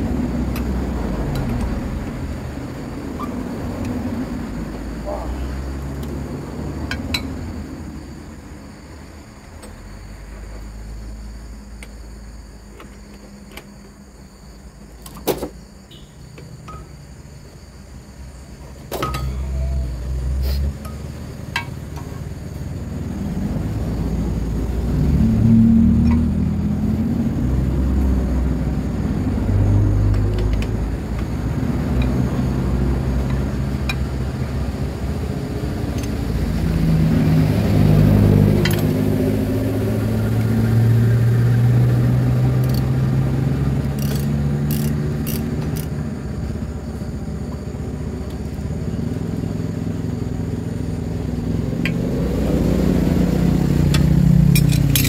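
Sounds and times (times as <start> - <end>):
diesel engine rumbling: 0.0 - 15.1, 15.9 - 55.0.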